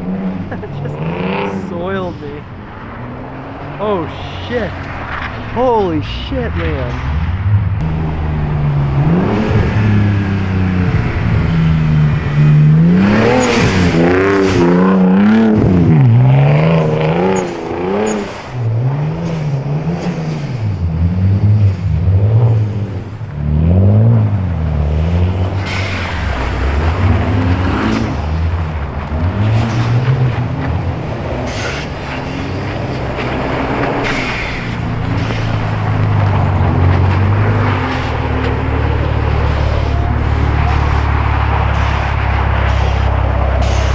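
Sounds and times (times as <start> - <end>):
car engine revving hard: 0.0 - 43.9.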